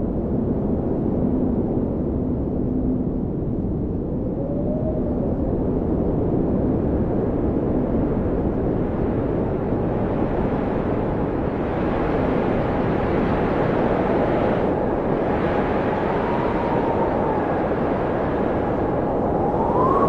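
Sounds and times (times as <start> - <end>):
blizzard wind howling: 0.0 - 20.0.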